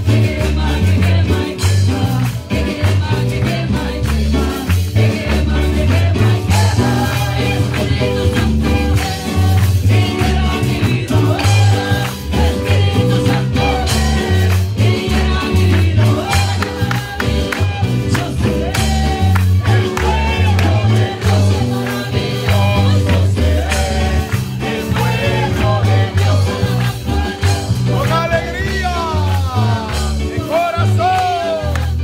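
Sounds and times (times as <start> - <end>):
woman singing lead: 0.0 - 27.8
drum kit: 0.0 - 32.0
electric guitars: 0.0 - 32.0.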